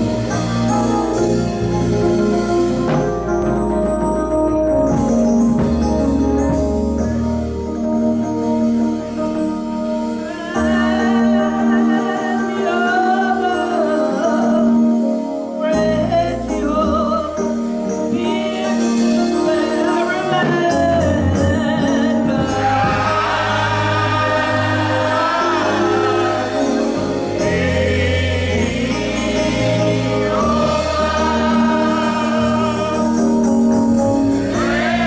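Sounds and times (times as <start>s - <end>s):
choir singing gospel: 0.0s - 35.0s
organ chords: 0.0s - 35.0s.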